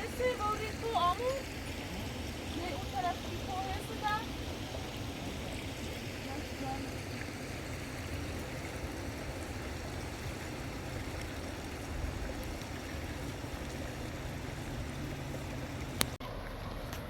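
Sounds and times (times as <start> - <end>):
flooded river rushing: 0.0 - 17.0.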